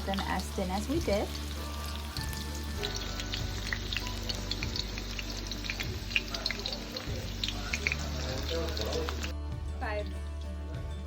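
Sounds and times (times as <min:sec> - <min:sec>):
meat frying in hot oil: 0:00.0 - 0:09.4
background music: 0:00.0 - 0:11.0.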